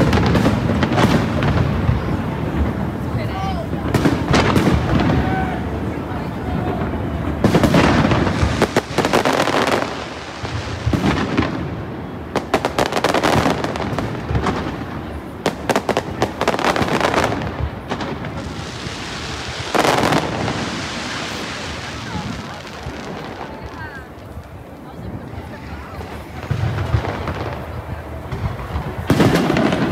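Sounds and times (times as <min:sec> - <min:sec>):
firework shells booming: 0:00.0 - 0:24.6, 0:26.0 - 0:29.9
fireworks crackling: 0:00.0 - 0:29.9.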